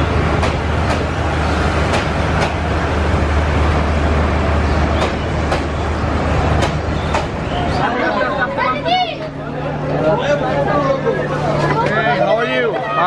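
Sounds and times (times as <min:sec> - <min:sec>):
train carriages rumbling past: 0:00.0 - 0:12.7.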